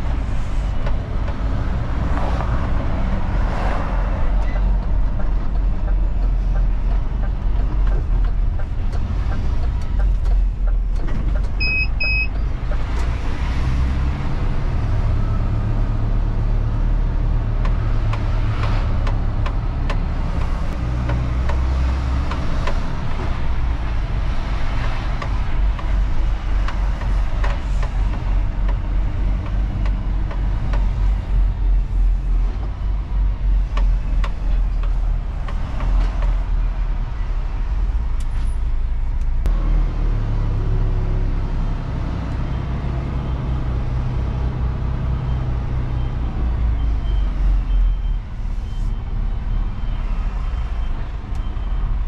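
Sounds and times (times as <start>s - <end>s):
diesel truck engine drone: 0.0s - 52.0s.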